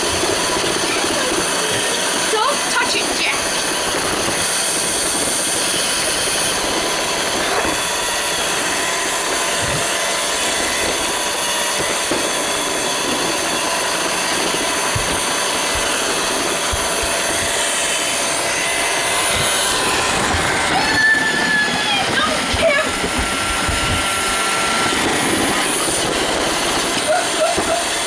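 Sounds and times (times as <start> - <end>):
robot vacuum running: 0.0 - 28.0.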